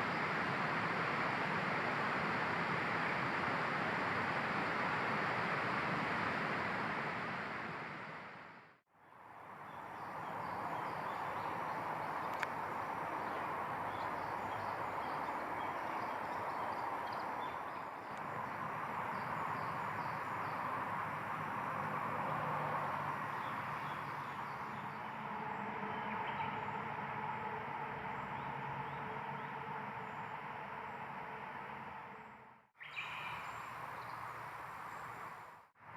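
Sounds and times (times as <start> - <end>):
constant outdoor hiss: 0.0 - 35.9.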